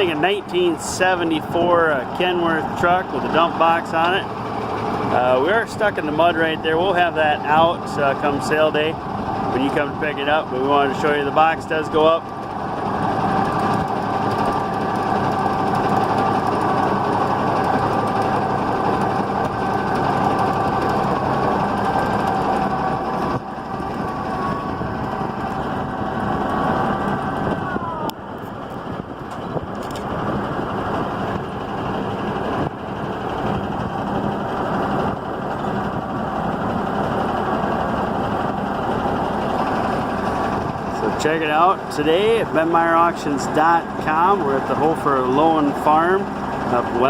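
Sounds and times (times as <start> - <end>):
hydraulic hoist whine: 0.0 - 47.0
truck engine running: 0.0 - 47.0.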